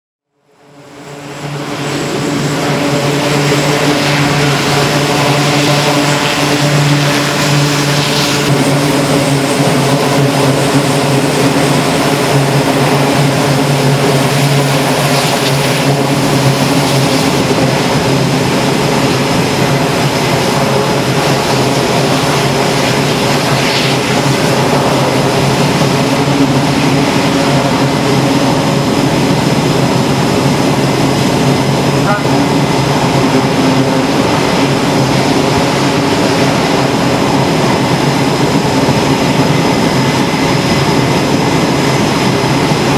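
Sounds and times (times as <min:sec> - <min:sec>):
propeller hum: 0:00.3 - 0:42.9
rushing turbine noise: 0:00.3 - 0:42.9.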